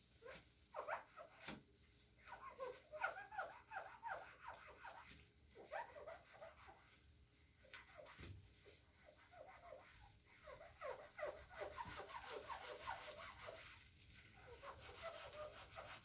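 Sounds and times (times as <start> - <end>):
wet sponge squeaking and squishing: 0.2 - 1.6, 2.2 - 7.0, 7.6 - 16.0.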